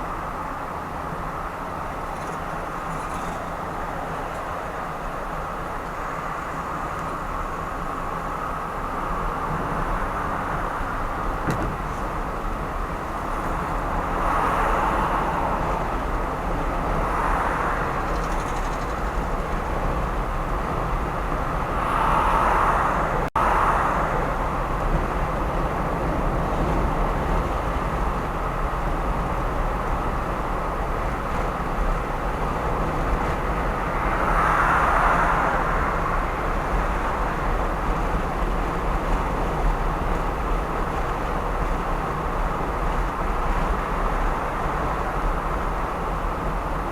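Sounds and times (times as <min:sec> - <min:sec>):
car driving road noise: 0:00.0 - 0:46.9.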